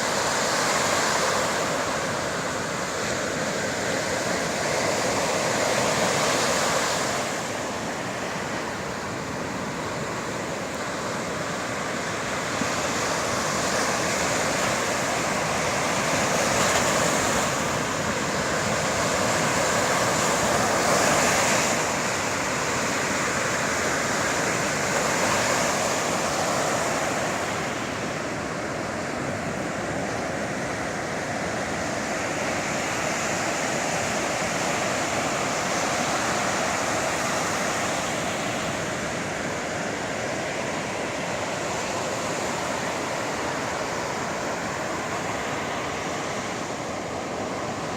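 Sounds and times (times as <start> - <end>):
sea waves breaking on shore: 0.0 - 47.9.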